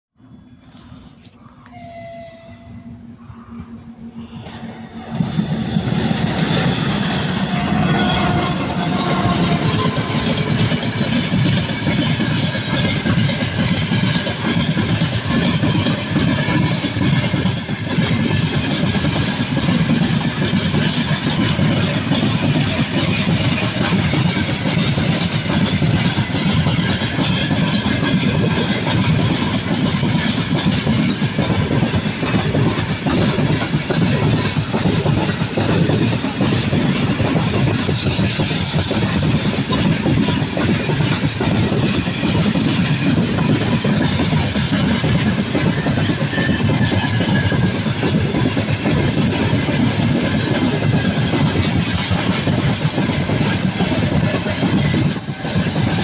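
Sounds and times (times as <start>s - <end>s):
train wheels rumbling on rails: 0.2s - 56.0s.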